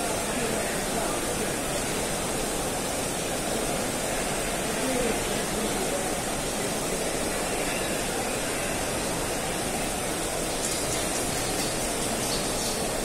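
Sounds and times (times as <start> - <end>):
heavy rain on stone: 0.0 - 13.0.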